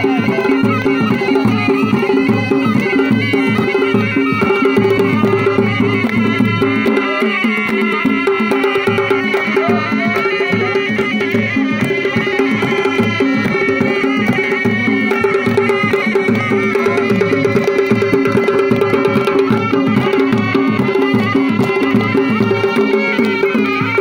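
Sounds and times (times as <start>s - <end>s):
drum beating fast rhythm: 0.0s - 24.0s
pipes playing a melody: 0.0s - 24.0s.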